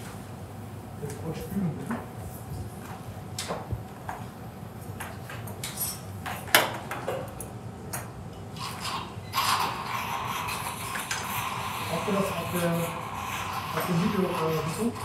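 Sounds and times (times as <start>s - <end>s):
steady room hum: 0.0s - 15.0s.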